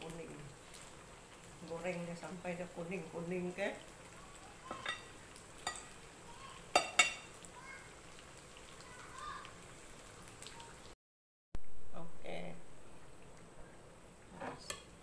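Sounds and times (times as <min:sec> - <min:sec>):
food sizzling in oil: 0:00.0 - 0:11.0, 0:11.8 - 0:15.0.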